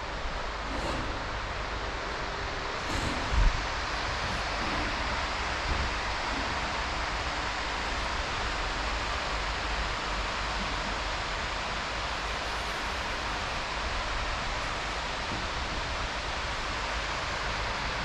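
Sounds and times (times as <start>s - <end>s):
distant motorway traffic: 0.0s - 18.0s
wind rumbling on microphone: 0.0s - 18.0s.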